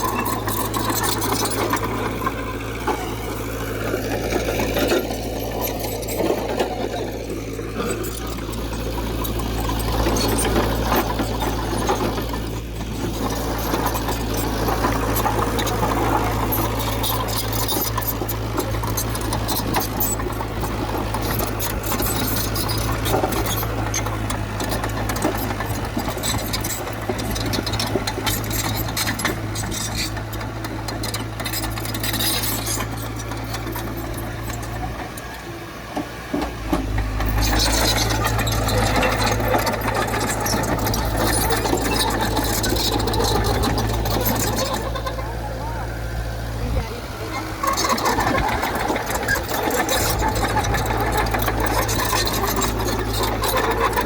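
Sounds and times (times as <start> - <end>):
rapid metallic clatter: 0.0 - 35.4, 36.4 - 45.9, 46.6 - 54.0
heavy diesel engine running: 0.0 - 54.0.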